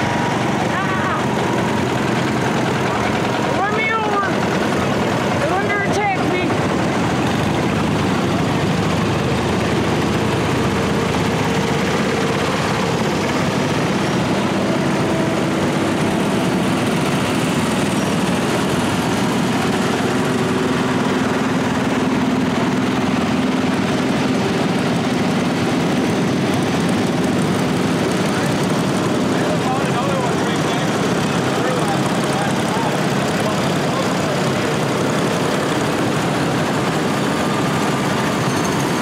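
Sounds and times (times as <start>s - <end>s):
garden tractor engines idling: 0.0s - 39.0s.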